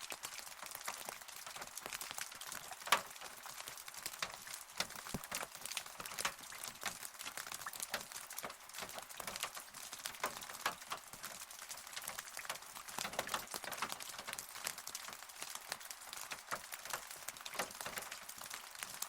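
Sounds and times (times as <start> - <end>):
raindrops tapping a surface: 0.0 - 19.0.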